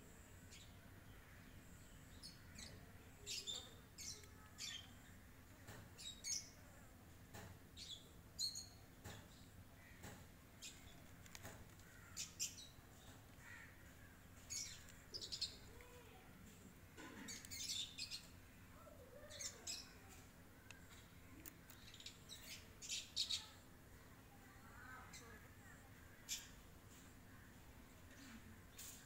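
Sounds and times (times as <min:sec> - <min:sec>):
birds chirping: 0:00.5 - 0:06.7, 0:07.3 - 0:29.0.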